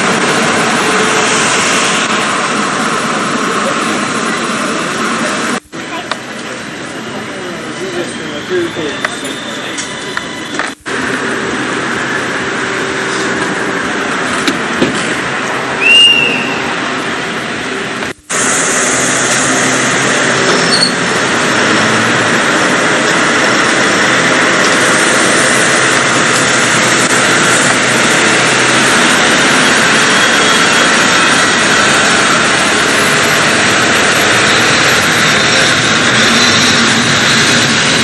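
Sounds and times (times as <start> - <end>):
passenger train running noise: 0.0 - 38.0.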